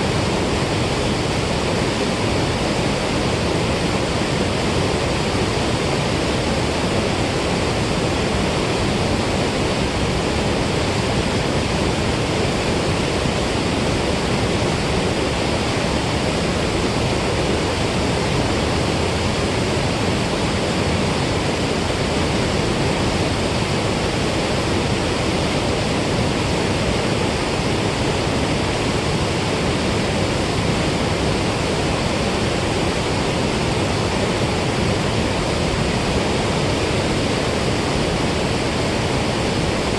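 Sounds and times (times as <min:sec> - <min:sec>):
rushing water roar: 0:00.0 - 0:39.9.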